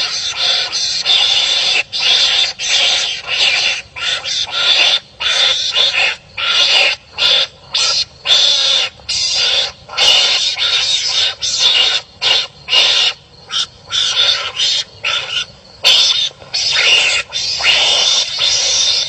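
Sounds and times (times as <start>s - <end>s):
animals fighting with raspy calls: 0.0s - 19.0s.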